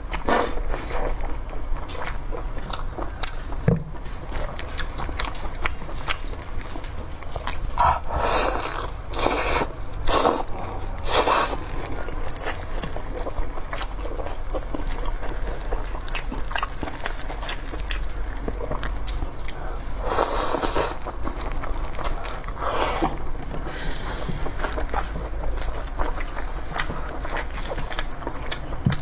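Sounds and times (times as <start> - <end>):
low steady hum: 0.0 - 29.0
wet chewing and mouth clicks: 0.0 - 29.0.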